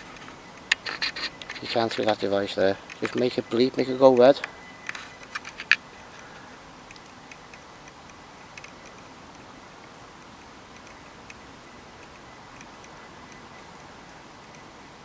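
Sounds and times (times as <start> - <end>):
faint ticks: 0.0 - 15.0
sharp clicks: 0.0 - 15.0
steady hiss: 0.0 - 15.0.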